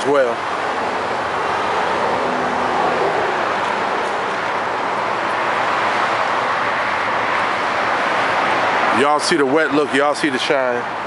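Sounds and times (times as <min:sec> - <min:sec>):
road traffic roaring: 0:00.0 - 0:11.0.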